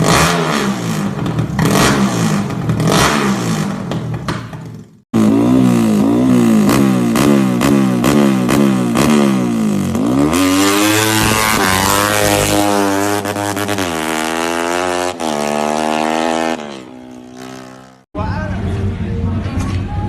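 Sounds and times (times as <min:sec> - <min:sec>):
motorcycle engine revving: 0:00.0 - 0:18.1.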